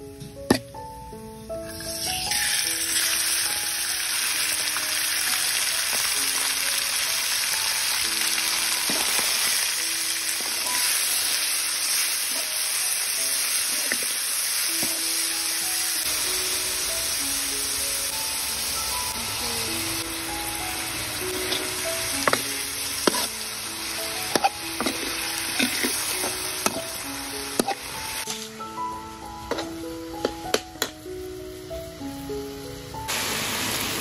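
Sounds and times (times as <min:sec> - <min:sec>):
food sizzling in hot oil: 0:01.6 - 0:32.3, 0:33.1 - 0:34.0.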